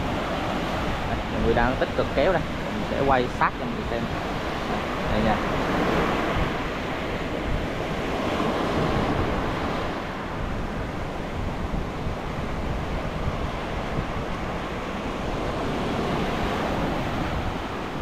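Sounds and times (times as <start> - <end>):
sea surf washing onto beach: 0.0 - 18.0
wind buffeting microphone: 0.0 - 18.0.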